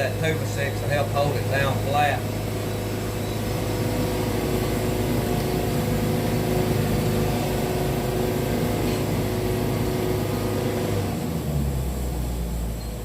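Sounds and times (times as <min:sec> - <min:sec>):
held tones: 0:00.0 - 0:11.1
sawmill engine hum: 0:00.0 - 0:13.0.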